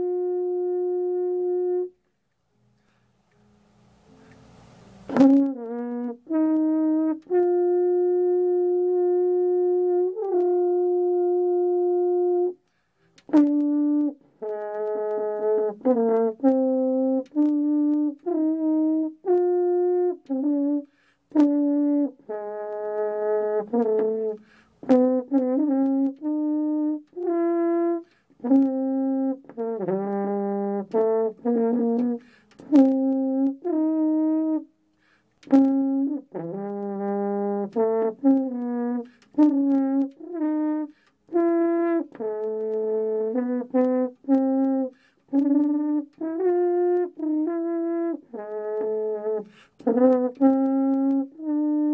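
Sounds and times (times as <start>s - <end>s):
french horn solo: 0.0s - 3.0s, 4.0s - 51.9s.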